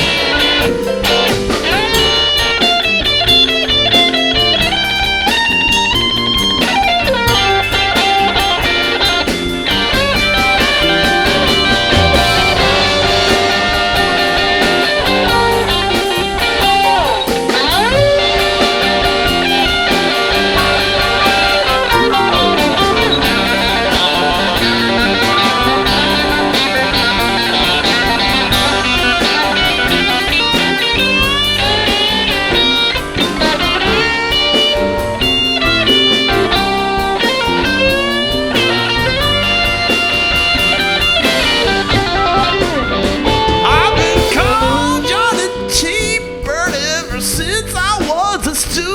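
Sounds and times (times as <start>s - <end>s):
blues-rock band playing live: 0.0s - 48.9s
drum kit: 0.0s - 48.9s
electric guitar: 0.0s - 48.9s.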